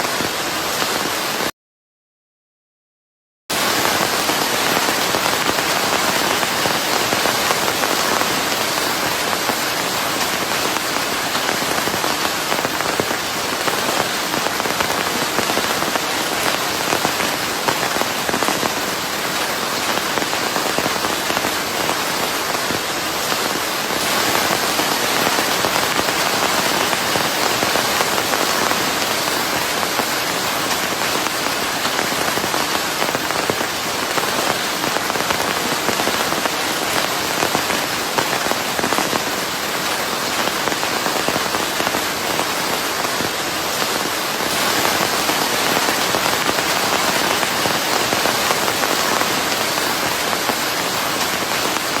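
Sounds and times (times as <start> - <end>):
heavy rain falling: 0.0 - 1.5, 3.5 - 52.0.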